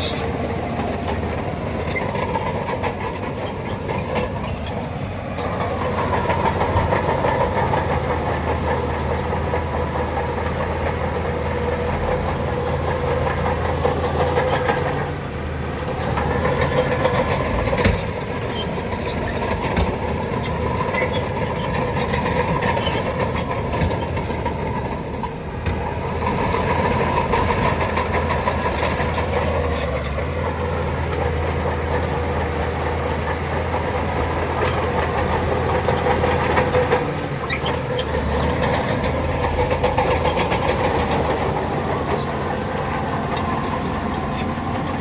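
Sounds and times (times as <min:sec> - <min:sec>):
diesel machinery engine running: 0:00.0 - 0:45.0.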